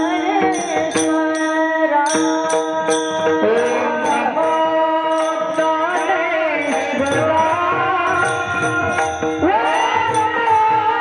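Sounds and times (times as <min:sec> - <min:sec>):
harmonium notes: 0:00.0 - 0:11.0
person singing devotional song: 0:00.0 - 0:11.0.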